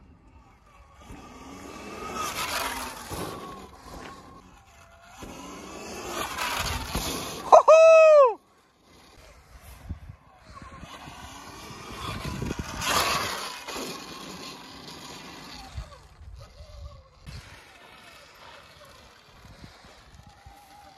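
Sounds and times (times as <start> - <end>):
electric motor whining: 0.0 - 20.9
tyres on dirt: 0.0 - 20.9.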